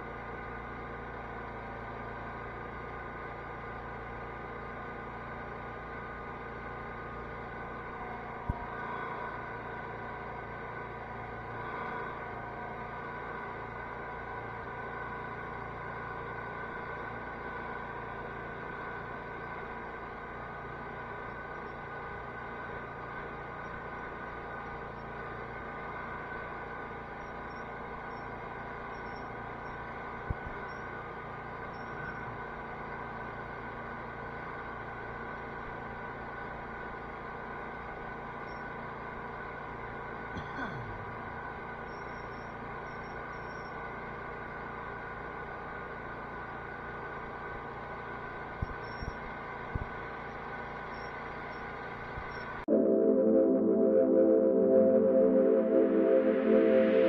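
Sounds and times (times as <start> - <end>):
garden tractor engine running: 0.0 - 52.6.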